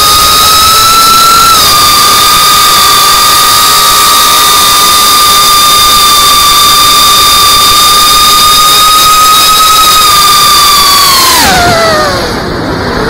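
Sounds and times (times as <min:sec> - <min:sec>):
constant rush of noise: 0:00.0 - 0:13.0
quadcopter motors whining: 0:00.0 - 0:13.0.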